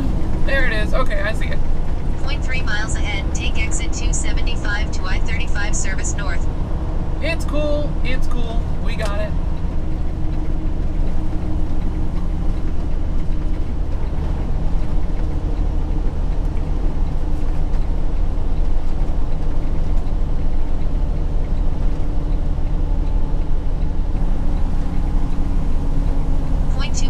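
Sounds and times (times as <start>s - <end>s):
road noise: 0.0s - 27.0s
truck diesel engine drone: 0.0s - 27.0s.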